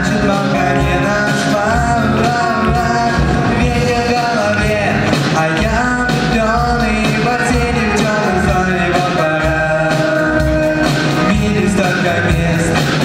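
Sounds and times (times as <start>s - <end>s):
rock-style pop song: 0.0s - 13.0s.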